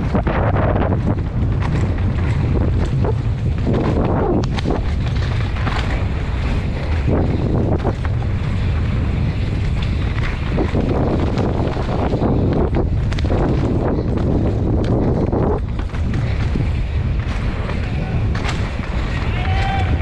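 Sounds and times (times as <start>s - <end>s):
bike knocking and rattling: 0.0s - 20.0s
tyres rumbling on dirt and rocks: 0.0s - 20.0s
wind buffeting microphone: 0.0s - 20.0s.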